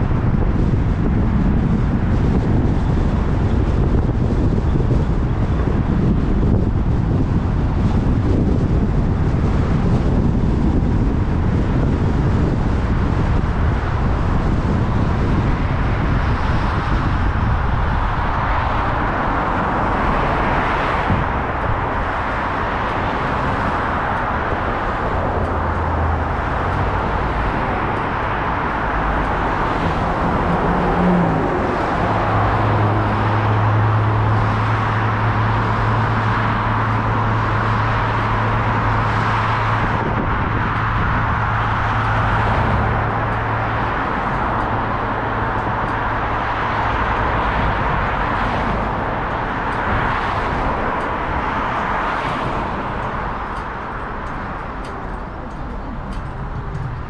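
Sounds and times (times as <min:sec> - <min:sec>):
heavy low rumble: 0:00.0 - 0:57.0
road and traffic noise: 0:00.0 - 0:57.0.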